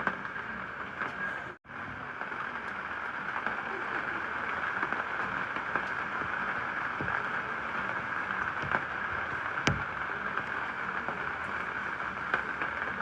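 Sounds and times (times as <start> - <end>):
steady rain falling: 0.0 - 13.0
raindrop ticks: 2.0 - 13.0.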